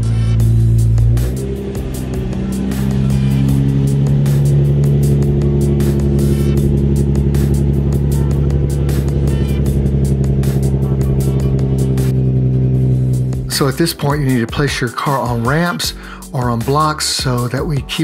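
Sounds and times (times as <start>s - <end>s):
car engine running: 0.0s - 18.0s
music with steady beat: 0.0s - 18.0s.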